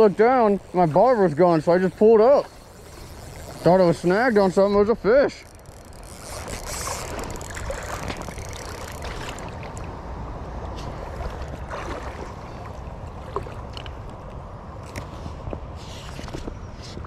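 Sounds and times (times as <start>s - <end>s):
river water flowing: 0.0s - 15.9s.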